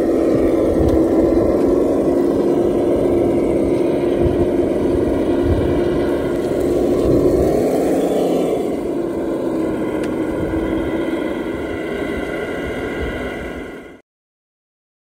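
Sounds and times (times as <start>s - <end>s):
toy truck motor and gear whine: 0.0s - 14.0s.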